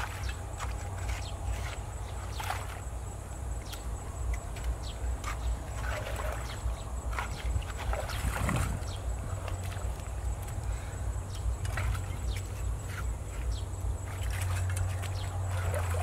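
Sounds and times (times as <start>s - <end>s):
splashes of shallow water: 0.0s - 16.0s
wind rumble on microphone: 0.0s - 16.0s.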